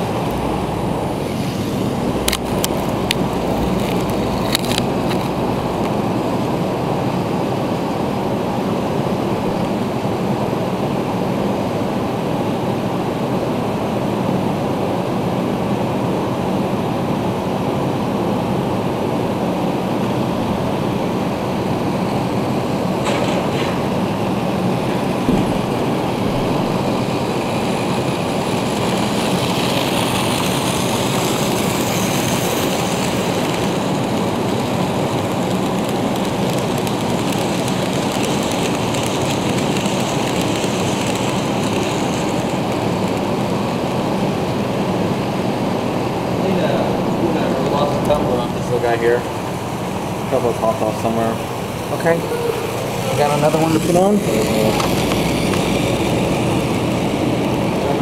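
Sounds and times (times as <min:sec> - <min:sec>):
model train whirring on track: 0:00.0 - 0:58.0.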